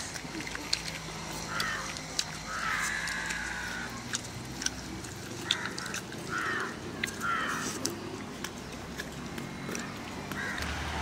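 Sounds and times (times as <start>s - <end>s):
harsh animal calls: 0.0s - 11.0s.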